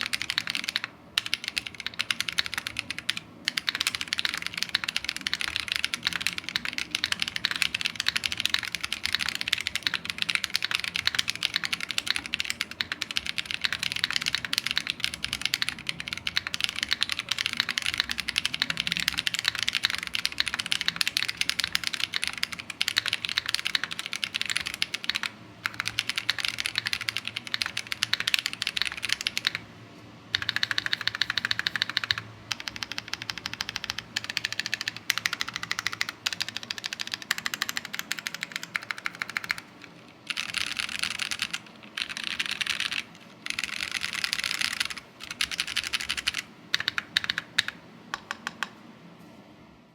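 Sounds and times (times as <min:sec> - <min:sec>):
fast typing on mechanical keyboard: 0:00.0 - 0:29.6, 0:30.3 - 0:48.7.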